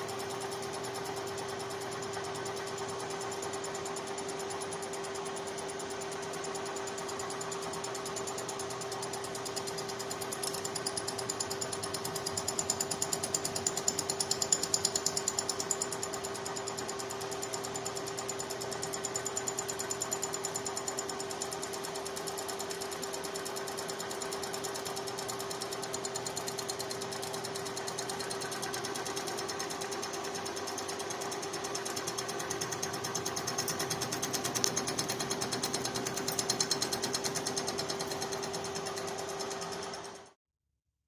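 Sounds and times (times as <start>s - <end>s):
milling machine motor hum: 0.0s - 40.2s.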